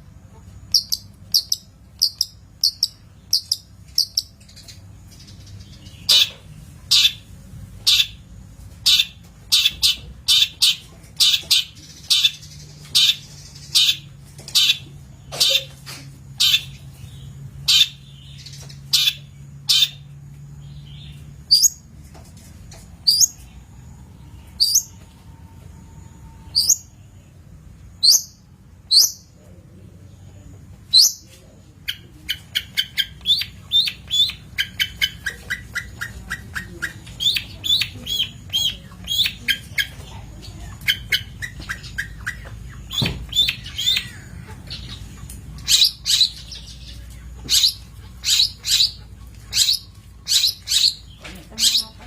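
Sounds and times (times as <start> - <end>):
shrike calling and singing: 0.7 - 8.2, 8.8 - 15.7, 16.3 - 21.9, 23.0 - 29.4, 30.0 - 52.0.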